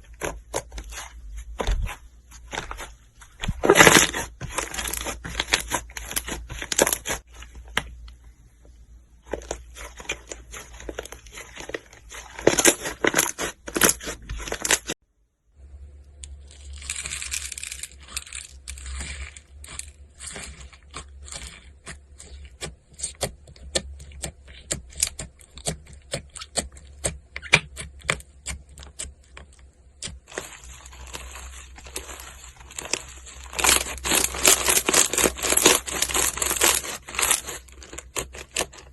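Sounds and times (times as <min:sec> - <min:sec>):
slime squishing: 0:00.0 - 0:08.1, 0:09.2 - 0:15.0, 0:17.9 - 0:38.9.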